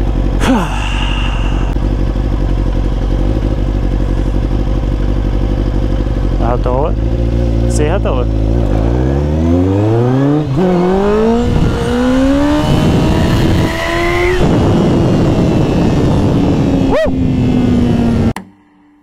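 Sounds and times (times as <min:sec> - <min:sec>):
motorcycle engine accelerating: 0:00.0 - 0:18.4.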